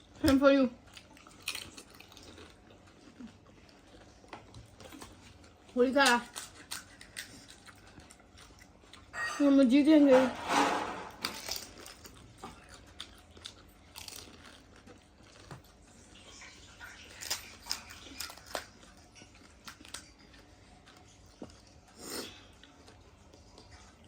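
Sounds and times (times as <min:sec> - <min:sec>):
crunching and chewing: 0:00.0 - 0:09.5, 0:10.6 - 0:24.0.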